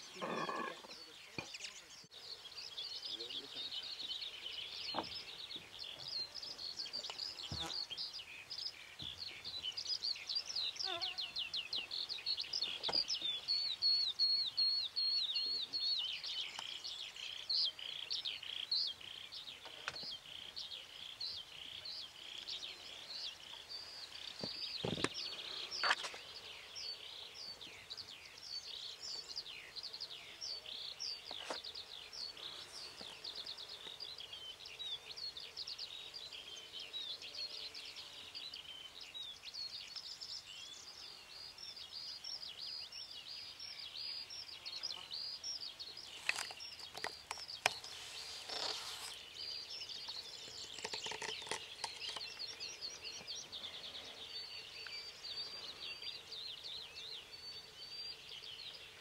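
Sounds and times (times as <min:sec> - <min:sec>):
small bird twittering song: 0:00.0 - 0:59.0.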